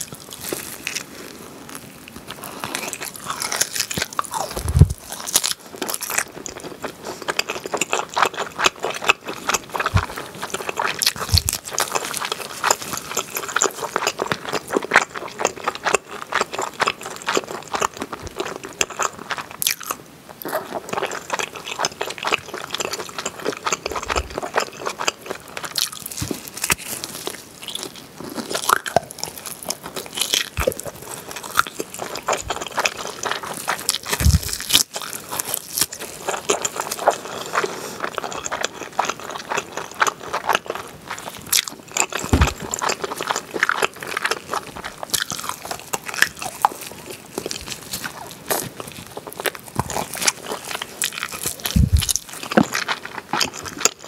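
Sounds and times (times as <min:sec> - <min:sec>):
chewing and biting: 0:00.0 - 0:54.0.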